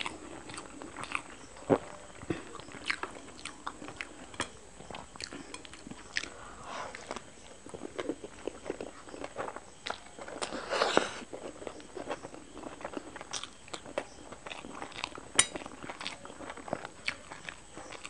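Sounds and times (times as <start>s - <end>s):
wet chewing and mouth clicks: 0.0s - 18.0s.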